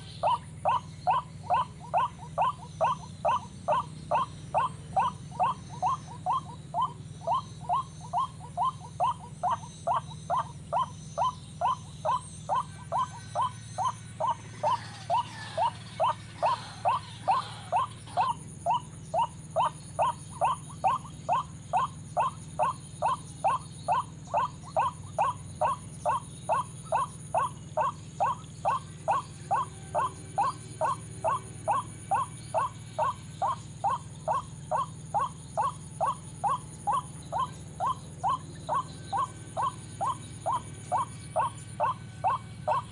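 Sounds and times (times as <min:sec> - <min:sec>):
waterhen call repeating: 0:00.0 - 0:42.9.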